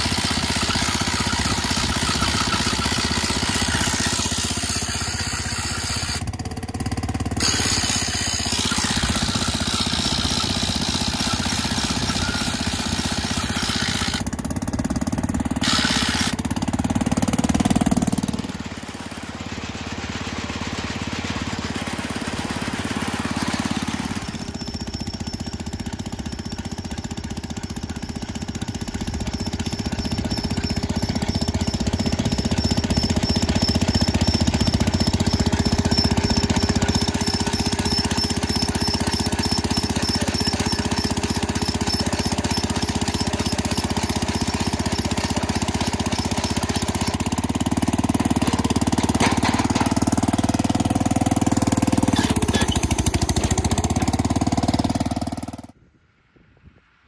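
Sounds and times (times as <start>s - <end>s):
small gas engine rattling: 0.0s - 55.8s.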